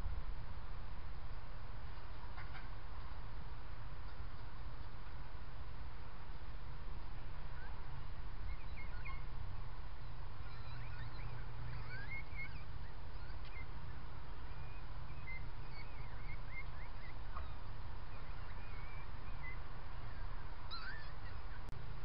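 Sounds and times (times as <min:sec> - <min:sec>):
steady low hum: 0:00.0 - 0:22.0
birds chirping: 0:01.3 - 0:21.8.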